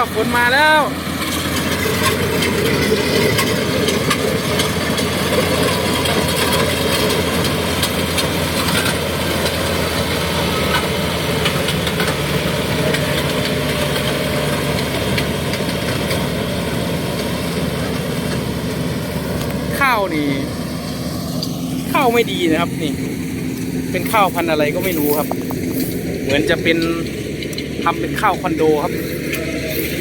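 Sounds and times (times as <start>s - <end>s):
combine harvester diesel engine: 0.0s - 30.0s
working machinery noise: 0.0s - 30.0s.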